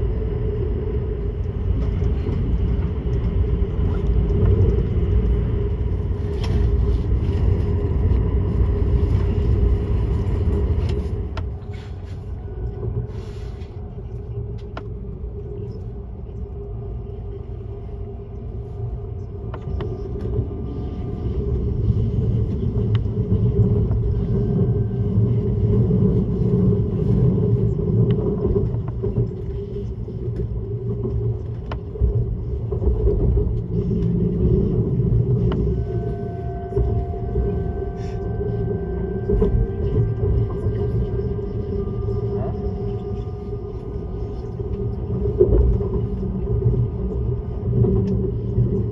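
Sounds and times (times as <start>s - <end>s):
train rolling rumble: 0.0s - 48.9s.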